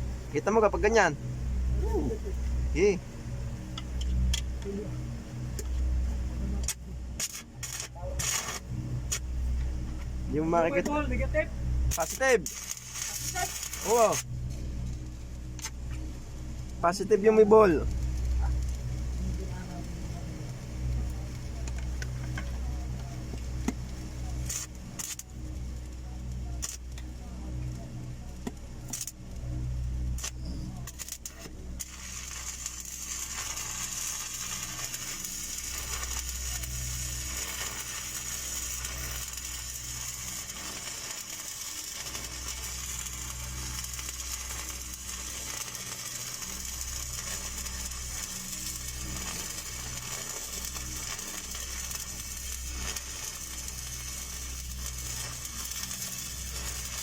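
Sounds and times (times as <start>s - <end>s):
low machine hum: 0.0s - 57.0s
welding arc crackling hiss: 0.0s - 57.0s.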